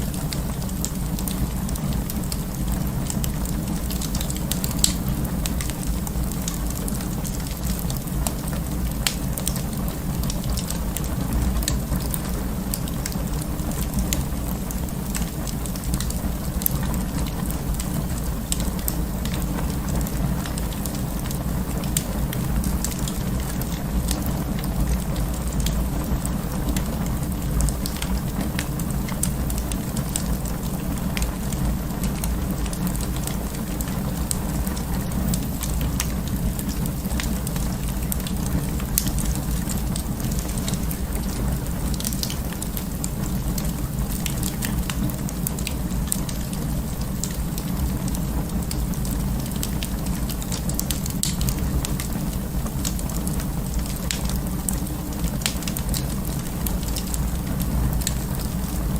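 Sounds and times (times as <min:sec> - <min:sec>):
fire crackling and popping: 0:00.0 - 0:58.9
low rumble of flames: 0:00.0 - 0:58.9.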